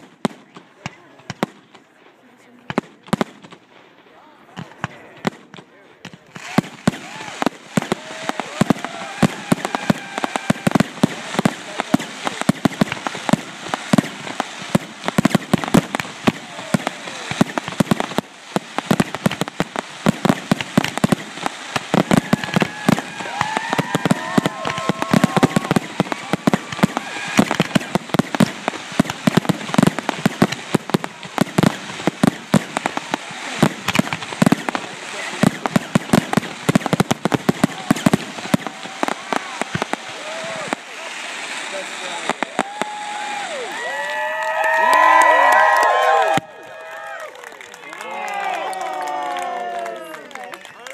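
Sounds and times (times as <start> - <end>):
fireworks popping and banging: 0.0 - 50.9.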